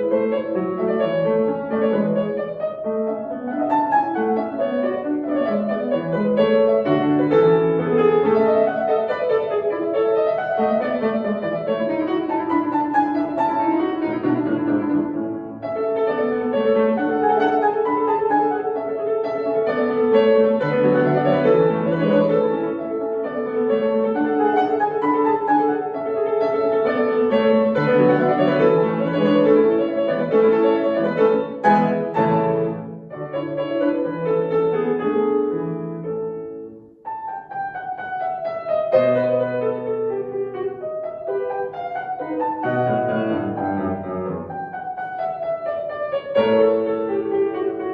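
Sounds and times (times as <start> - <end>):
solo classical piano: 0.0 - 47.9.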